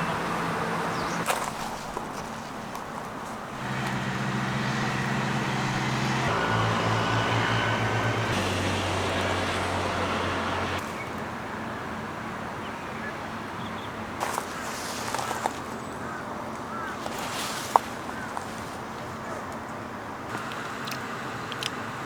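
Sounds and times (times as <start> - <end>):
vehicle engine running: 0.0 - 11.9, 14.2 - 22.0.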